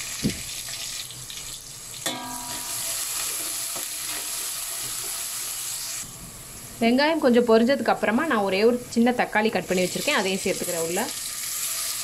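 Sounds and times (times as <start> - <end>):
onion sizzling in hot oil: 0.0 - 8.3, 9.4 - 12.0.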